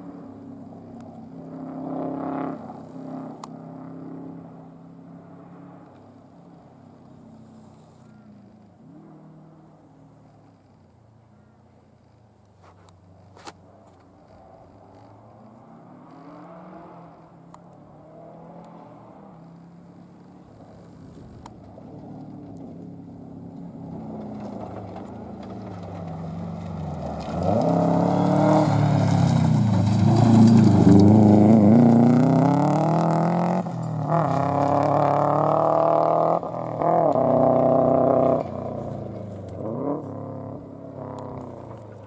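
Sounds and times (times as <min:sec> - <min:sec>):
rally car engine passing by: 0:00.0 - 0:08.2, 0:14.2 - 0:42.0.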